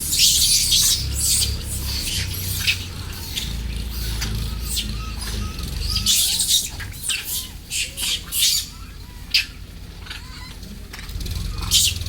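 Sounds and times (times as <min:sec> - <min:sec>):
monkey screeching: 0:00.0 - 0:10.6, 0:11.3 - 0:12.0
steady low rumble: 0:00.0 - 0:11.6.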